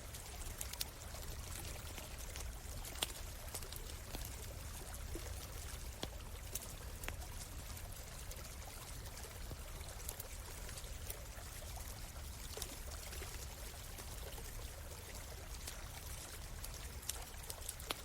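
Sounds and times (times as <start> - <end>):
campfire crackling: 0.0 - 18.0
stream trickling: 0.0 - 18.0.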